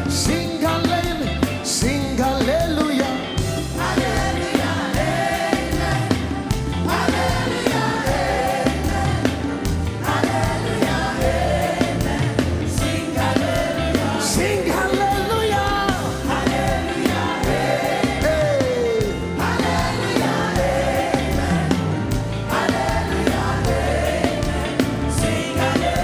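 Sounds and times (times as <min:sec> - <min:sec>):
instrumental backing with beat: 0:00.0 - 0:26.0
people singing gospel: 0:00.0 - 0:26.0.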